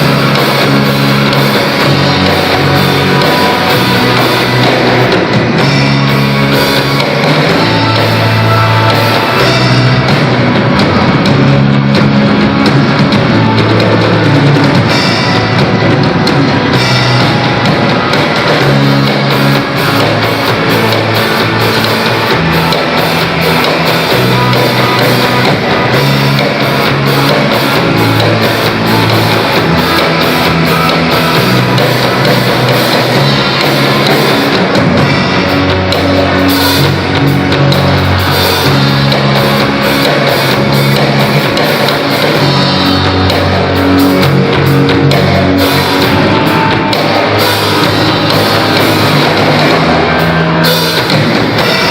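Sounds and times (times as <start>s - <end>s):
drum kit beating: 0.0s - 51.9s
rock band playing loudly: 0.0s - 51.9s.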